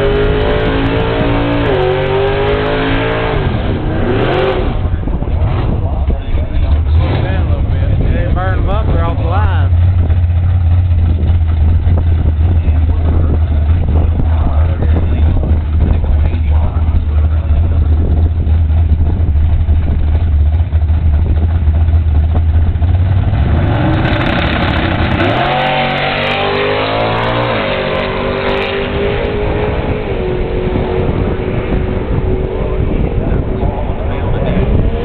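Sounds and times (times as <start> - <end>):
drag car engines revving: 0.0 - 35.0.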